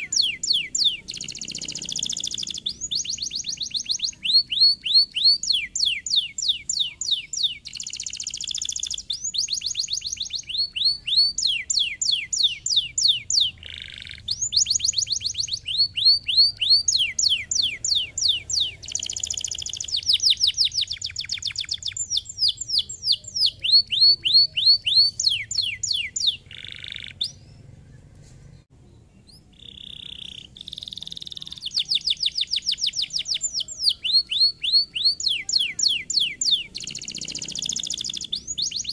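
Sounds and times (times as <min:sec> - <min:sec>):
canary singing trills: 0:00.0 - 0:28.1, 0:28.8 - 0:38.9.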